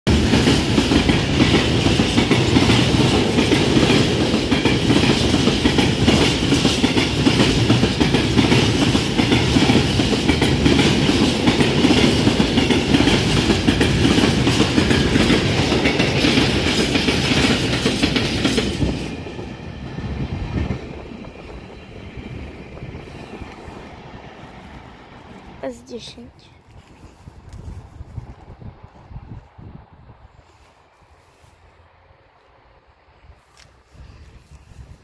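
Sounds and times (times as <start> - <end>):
freight train passing: 0.1 - 35.0.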